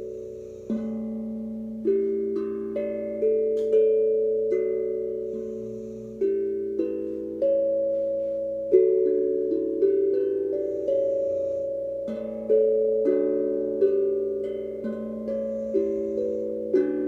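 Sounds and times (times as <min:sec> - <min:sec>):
steel tongue drum notes: 0:00.0 - 0:17.0.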